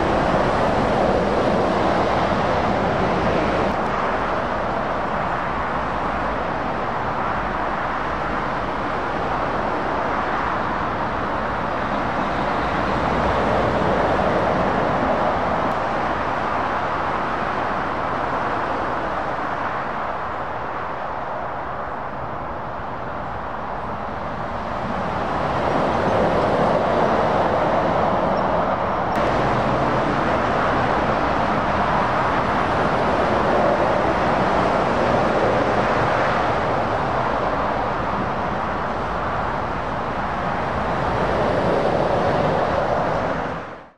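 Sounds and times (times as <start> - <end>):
motorway traffic rushing by: 0.0 - 43.9.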